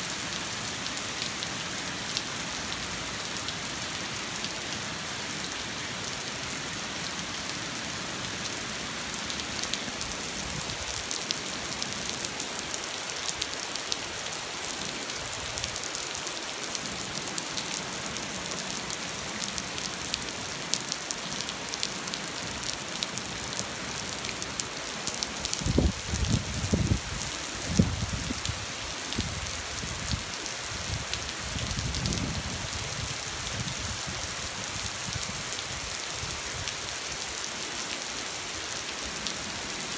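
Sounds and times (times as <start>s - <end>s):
rain pattering: 7.0s - 39.9s.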